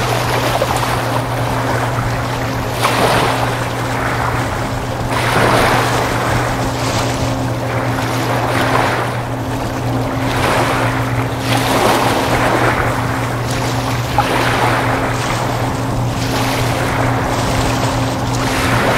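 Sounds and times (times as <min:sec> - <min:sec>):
low drone of ship engines: 0:00.0 - 0:18.9
rushing wind and water: 0:00.0 - 0:18.9.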